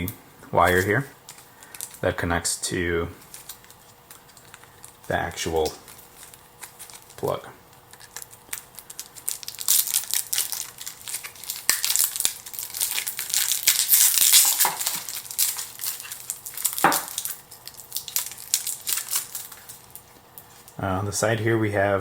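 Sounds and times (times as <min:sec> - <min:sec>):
packaging crinkling and rustling: 0:00.0 - 0:21.4
dense crackles: 0:00.0 - 0:22.0.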